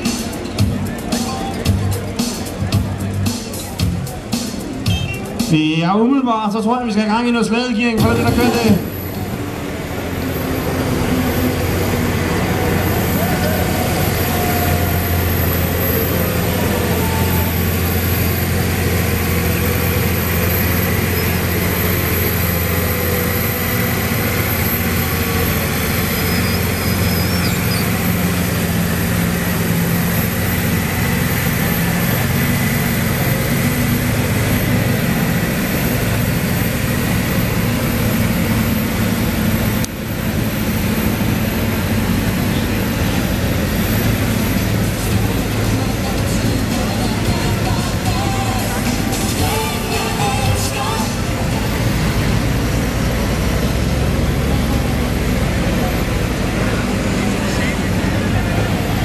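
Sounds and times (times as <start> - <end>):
tractor diesel engine under heavy load: 0.0 - 59.0.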